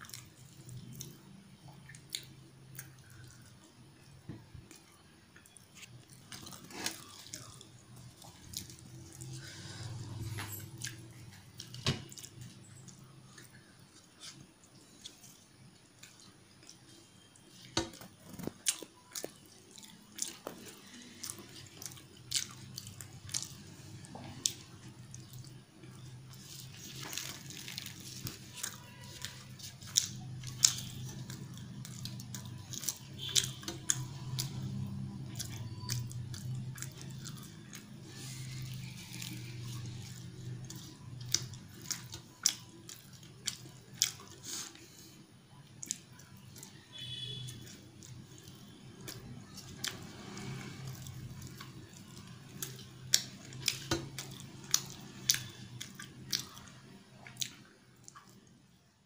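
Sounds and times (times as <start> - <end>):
chewing and wet mouth smacks: 0.0 - 3.7, 4.7 - 45.0, 45.6 - 58.6.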